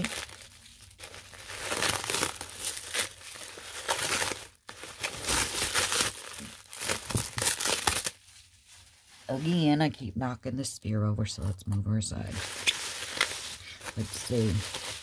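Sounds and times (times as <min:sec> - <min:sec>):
bubble wrap crinkling: 0:00.0 - 0:09.8, 0:12.3 - 0:15.0.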